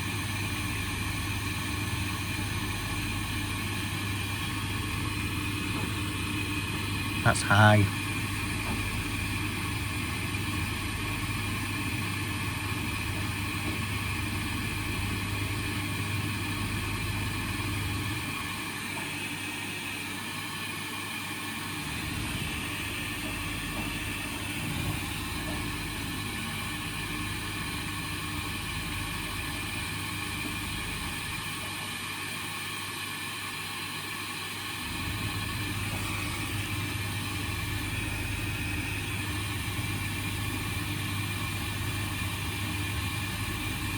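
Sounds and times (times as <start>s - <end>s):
low mains hum: 0.0s - 43.9s
washing machine filling with water: 0.0s - 43.9s.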